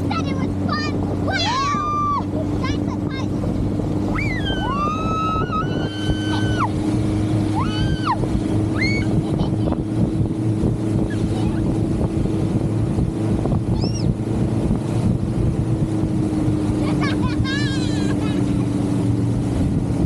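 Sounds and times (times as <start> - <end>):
motorboat engine running: 0.0 - 20.0
rushing wind and water: 0.0 - 20.0.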